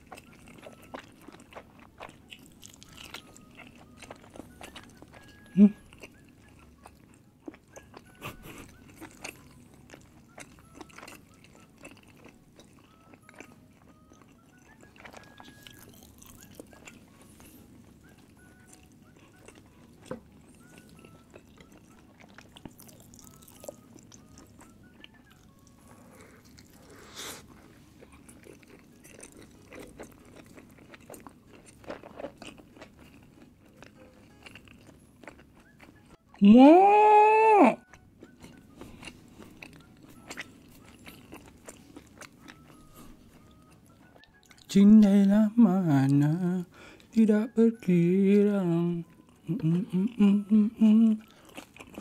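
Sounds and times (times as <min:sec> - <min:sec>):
person chewing food: 0:00.0 - 0:36.4, 0:37.8 - 0:52.0.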